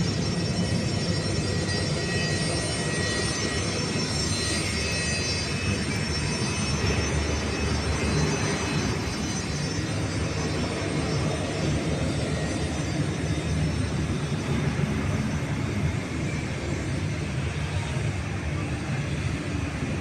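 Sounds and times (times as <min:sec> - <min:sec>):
high turbine whine: 0:00.0 - 0:20.0
jet engines rumbling: 0:00.0 - 0:20.0.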